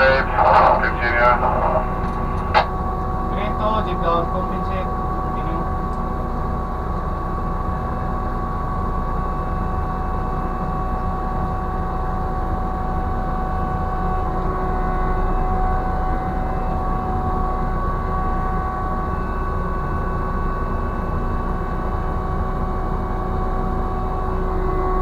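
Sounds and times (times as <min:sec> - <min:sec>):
crane machinery rumbling and whining: 0:00.0 - 0:25.0.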